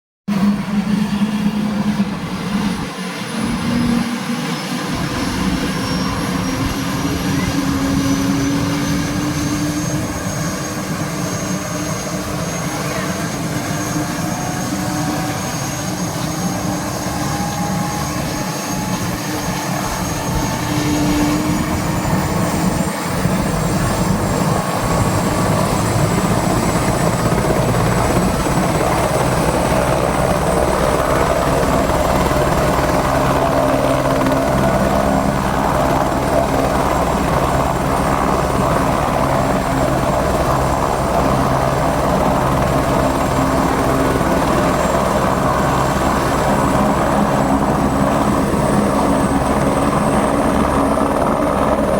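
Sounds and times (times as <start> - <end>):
helicopter rotor: 0.3 - 51.9.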